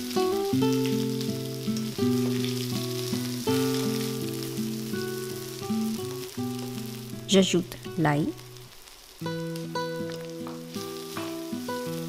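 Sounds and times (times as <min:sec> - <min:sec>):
instrumental background music: 0:00.0 - 0:12.0
onion sizzling in hot oil: 0:00.0 - 0:12.0.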